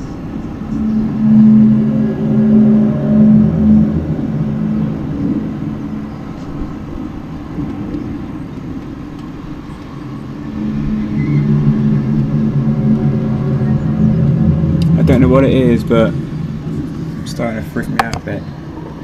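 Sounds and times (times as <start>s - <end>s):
low droning hum: 0.0s - 19.0s.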